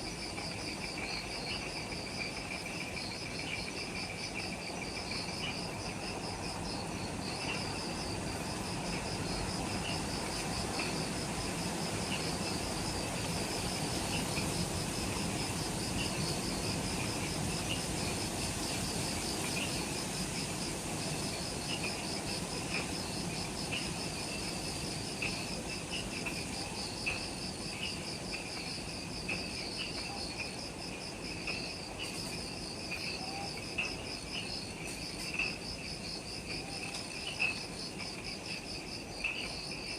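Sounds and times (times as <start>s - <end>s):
insects trilling: 0.0s - 39.9s
low insect chirp: 0.0s - 39.9s.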